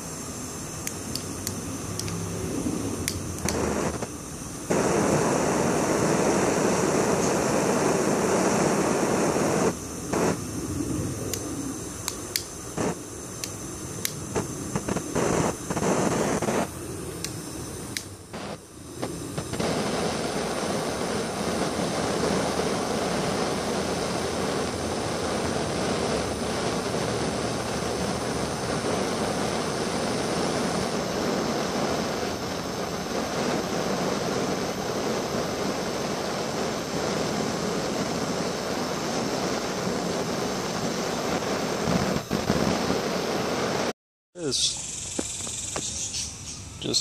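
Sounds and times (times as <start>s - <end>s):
blowtorch flame hissing: 0.0s - 47.0s.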